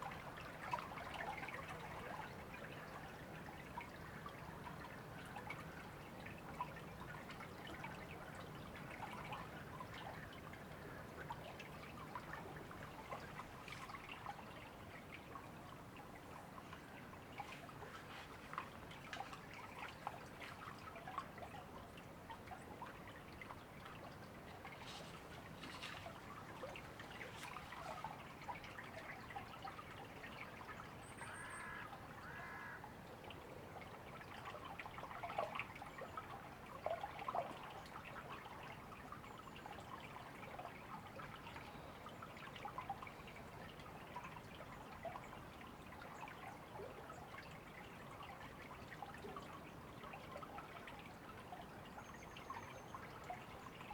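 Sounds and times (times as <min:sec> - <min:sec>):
river water babbling: 0:00.0 - 0:53.9.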